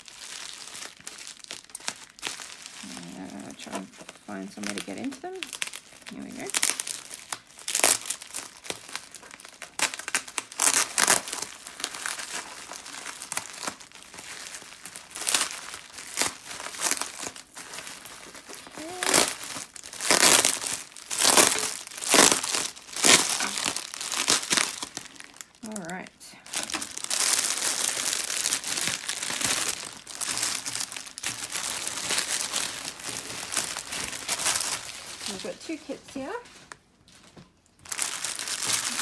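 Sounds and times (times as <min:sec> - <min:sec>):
bubble wrap crinkling: 0:00.0 - 0:39.0.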